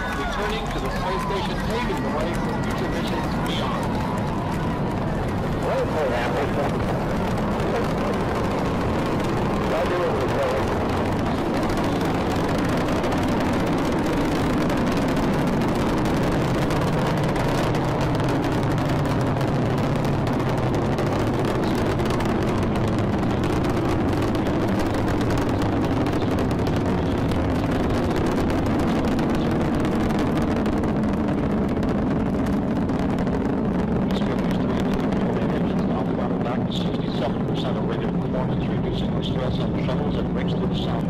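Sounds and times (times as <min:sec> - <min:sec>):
rocket launch roar: 0:00.0 - 0:41.0.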